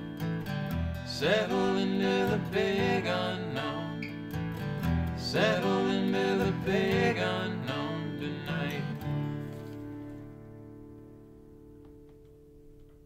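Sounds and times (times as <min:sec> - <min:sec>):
strummed acoustic guitar: 0:00.0 - 0:12.6.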